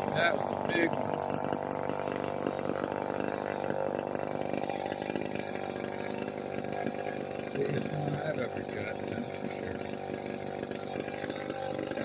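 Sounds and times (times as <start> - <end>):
two-stroke chainsaw running: 0.0 - 12.0.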